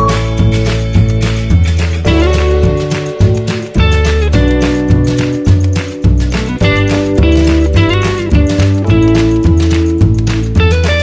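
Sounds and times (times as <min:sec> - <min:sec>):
music with strong bass beat: 0:00.0 - 0:11.0.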